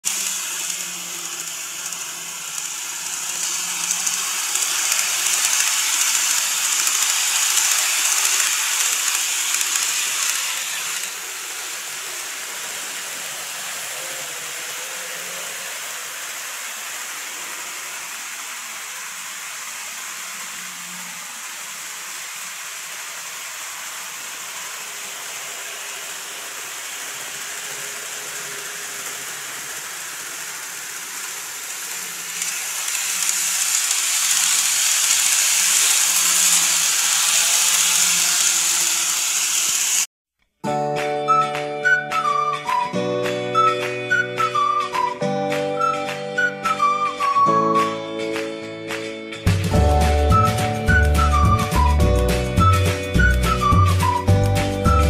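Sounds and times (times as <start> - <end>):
model electric trains running: 0.0 - 40.1, 41.3 - 55.0.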